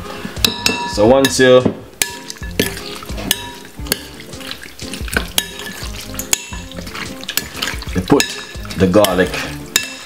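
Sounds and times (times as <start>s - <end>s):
wet mixing noise: 1.3s - 10.0s.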